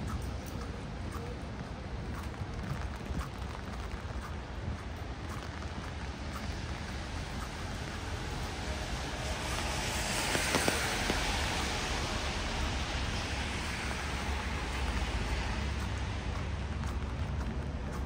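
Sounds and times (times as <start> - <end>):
rain hiss on street: 0.0 - 18.0
car tyres hissing on wet road: 2.2 - 18.0.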